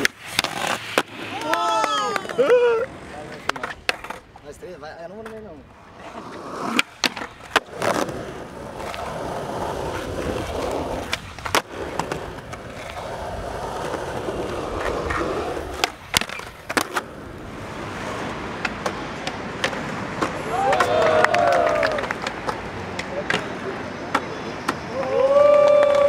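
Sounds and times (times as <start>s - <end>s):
skateboard popping and landing: 0.0s - 4.5s, 5.1s - 26.0s
skateboard wheels rolling: 0.0s - 26.0s.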